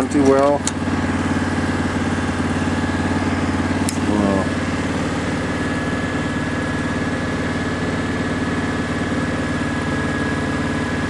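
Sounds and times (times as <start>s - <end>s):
thin steady whine: 0.0s - 11.0s
welder engine drone: 0.0s - 11.0s.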